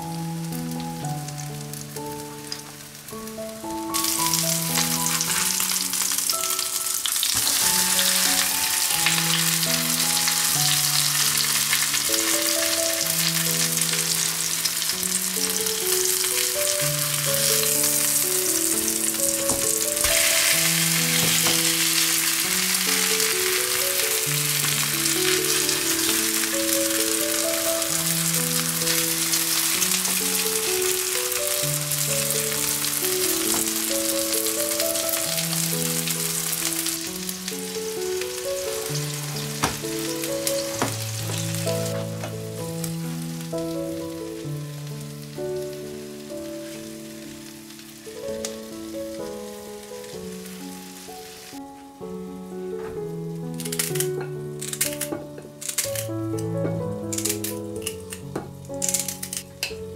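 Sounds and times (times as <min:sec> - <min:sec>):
meat frying in oil: 0:00.0 - 0:51.6
gentle background music: 0:00.0 - 0:59.9.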